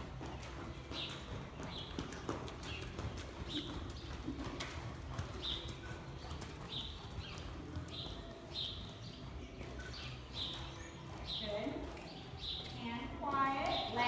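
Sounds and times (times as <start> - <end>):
horse hoofbeats thudding: 0.0 - 14.0
bird chirping: 0.2 - 14.0.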